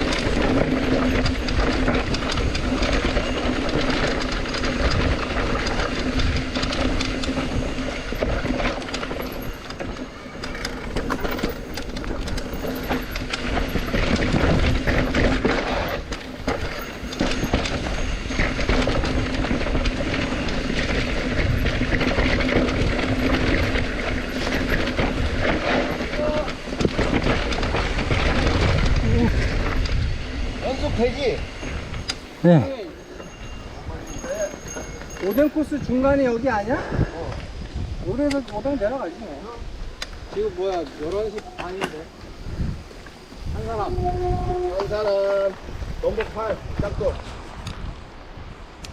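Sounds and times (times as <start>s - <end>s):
bike rattling over rough trail: 0.0s - 48.9s
wind on microphone: 0.0s - 48.9s.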